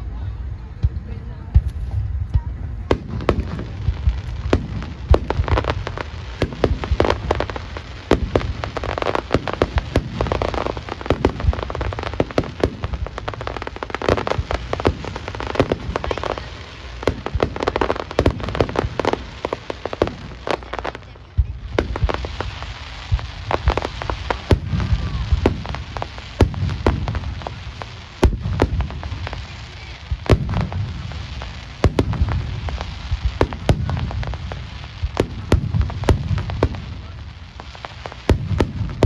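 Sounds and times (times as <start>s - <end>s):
fireworks crackling: 0.0s - 39.0s
low rumble of booms: 0.0s - 39.0s.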